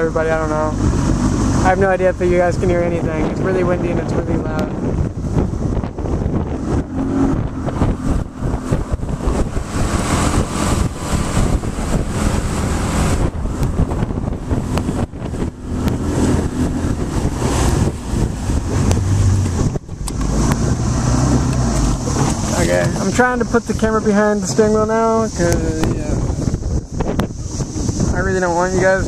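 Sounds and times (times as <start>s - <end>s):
outboard motor running: 0.0s - 29.0s
wind buffeting microphone: 0.0s - 29.0s.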